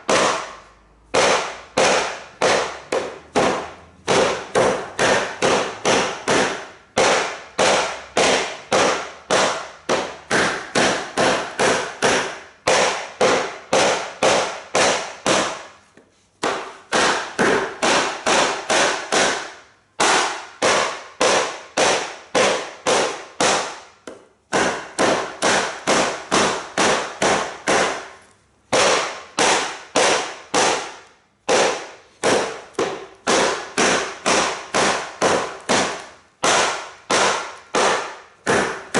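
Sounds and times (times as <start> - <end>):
baton striking hatchet spine: 0.0 - 38.9.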